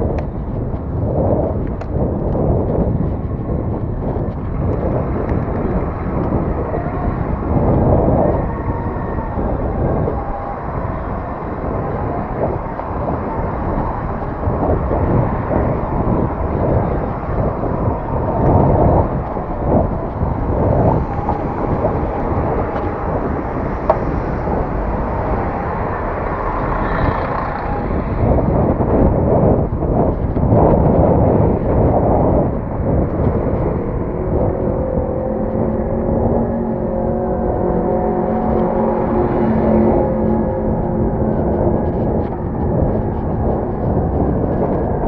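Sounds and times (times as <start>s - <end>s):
buses and cars in traffic: 0.0s - 45.0s
wind rumbling on microphone: 0.0s - 45.0s.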